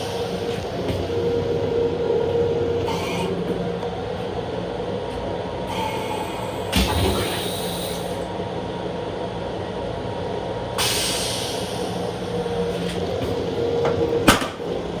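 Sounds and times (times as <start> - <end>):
train interior hum and rumble: 0.0 - 15.0.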